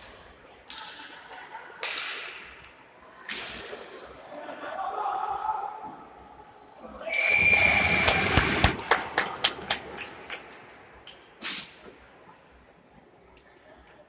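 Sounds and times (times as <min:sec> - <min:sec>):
crowd noise: 0:00.0 - 0:14.0.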